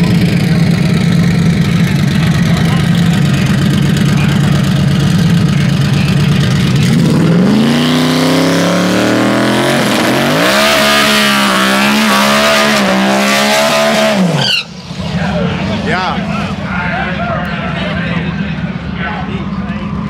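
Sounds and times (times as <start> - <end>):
tires spinning: 0.0 - 19.1
truck engine idling and revving: 0.0 - 20.0.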